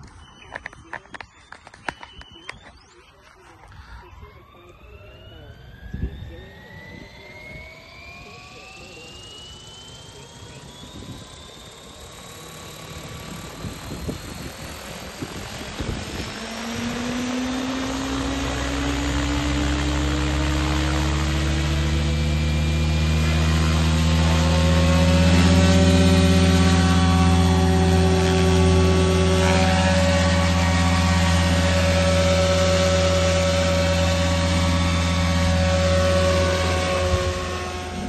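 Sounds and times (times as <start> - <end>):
electric helicopter motor and rotor whine: 0.0 - 38.0.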